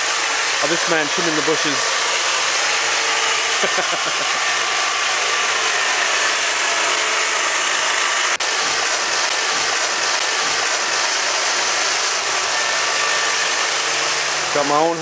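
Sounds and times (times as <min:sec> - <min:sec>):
hedge trimmer cutting: 0:00.0 - 0:15.0.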